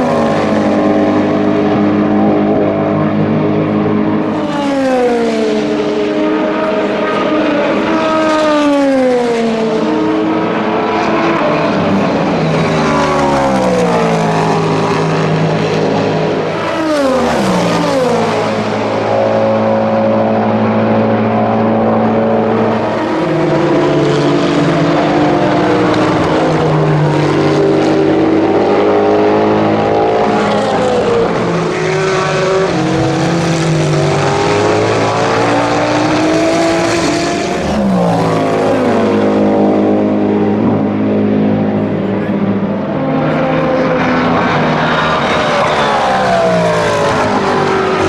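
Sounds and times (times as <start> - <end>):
race car engines shifting gears: 0.0 - 48.0.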